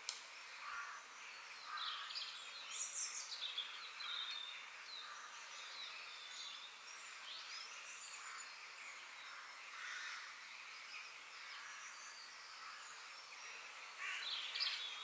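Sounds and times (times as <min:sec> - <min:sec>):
outdoor ambient hiss: 0:00.0 - 0:15.0
songbirds chirping: 0:00.0 - 0:15.0.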